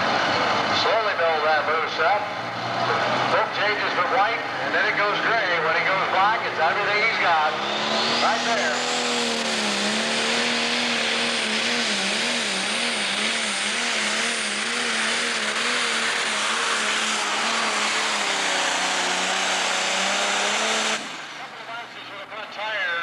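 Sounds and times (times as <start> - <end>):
diesel engine under full load: 0.0 - 23.0.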